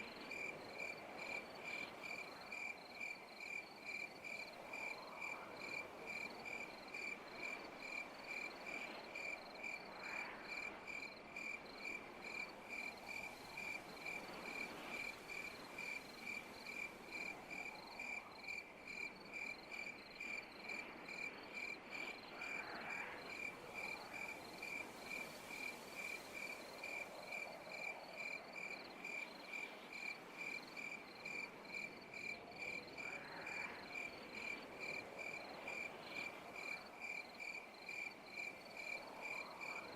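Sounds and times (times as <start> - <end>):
cricket chirping: 0.0 - 39.9
night insects: 0.0 - 39.9.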